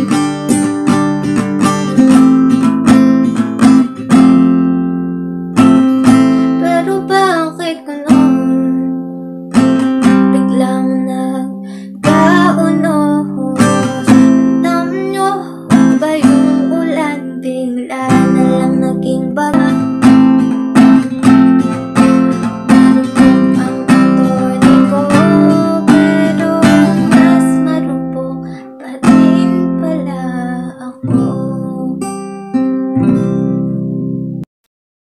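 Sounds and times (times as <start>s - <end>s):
song with strummed guitar: 0.0s - 34.5s.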